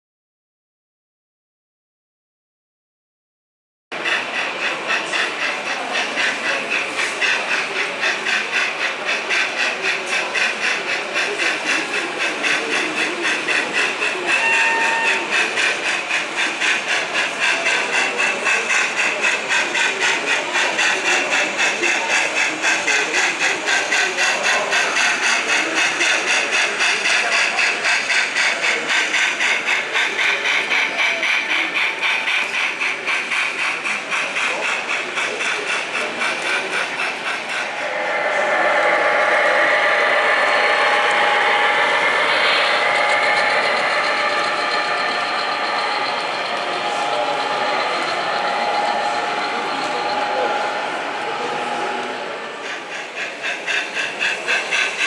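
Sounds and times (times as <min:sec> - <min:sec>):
model steam locomotive chuffing: 0:03.9 - 0:55.0.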